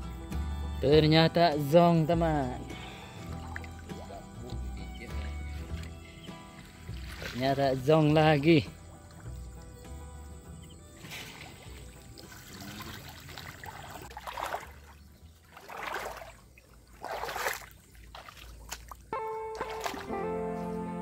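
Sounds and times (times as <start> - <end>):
faint background music: 0.0 - 17.1, 19.0 - 21.0
water trickling and sloshing: 2.4 - 20.4.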